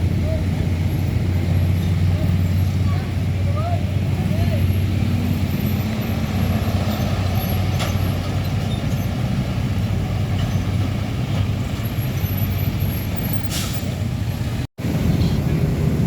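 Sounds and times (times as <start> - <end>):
diesel truck engine running: 0.0 - 16.0
traffic noise: 0.0 - 16.0.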